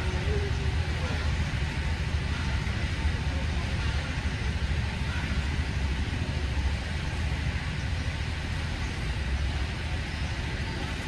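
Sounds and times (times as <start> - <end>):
continuous low rumble: 0.0 - 11.0.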